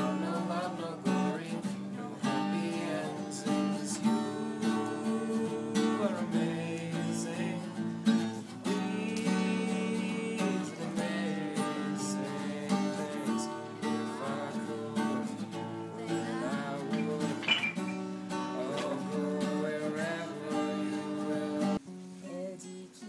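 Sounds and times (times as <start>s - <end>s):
acoustic guitar strumming: 0.0s - 22.8s.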